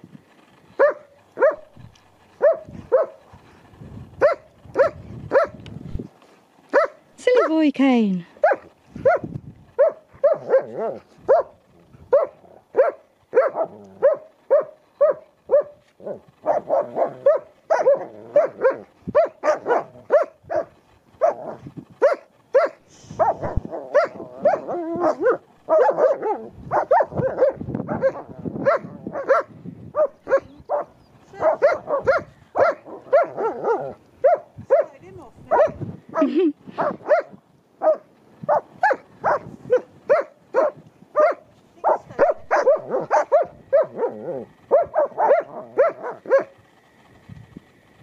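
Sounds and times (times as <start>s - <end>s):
dog barking: 0.8s - 1.7s, 2.4s - 3.2s, 4.2s - 5.6s, 6.7s - 7.6s, 8.4s - 9.2s, 9.8s - 35.8s, 36.8s - 46.5s.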